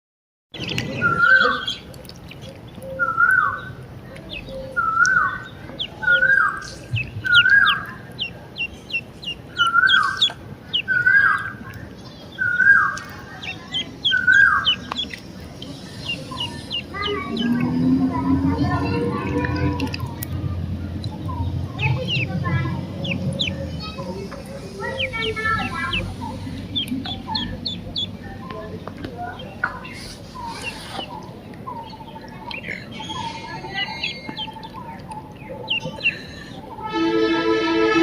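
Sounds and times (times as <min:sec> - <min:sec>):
ducklings peeping: 0:00.6 - 0:36.8.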